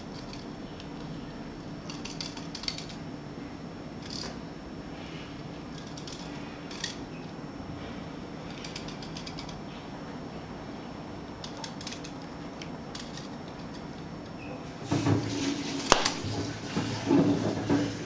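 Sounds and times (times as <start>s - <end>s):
steady low hum: 0.0s - 17.7s.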